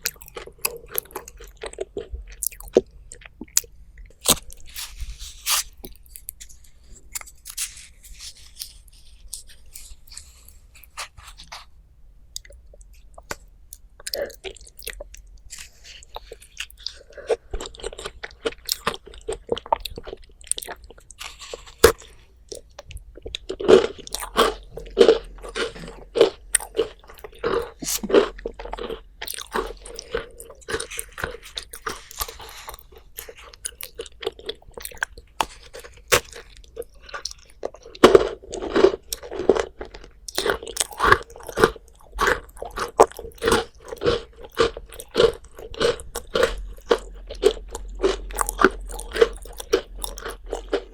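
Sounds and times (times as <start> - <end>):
crunchy bites: 0.0 - 6.5, 13.2 - 50.9
chewing food: 0.0 - 11.7, 12.3 - 50.9.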